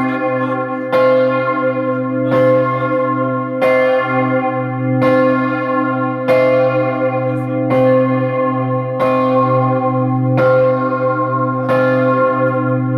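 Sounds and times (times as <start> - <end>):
large bell ringing: 0.0 - 12.9.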